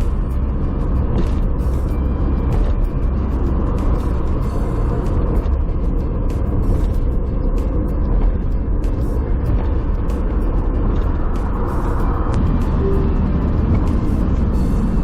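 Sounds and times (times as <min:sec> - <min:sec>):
van road and engine rumble: 0:00.0 - 0:15.0.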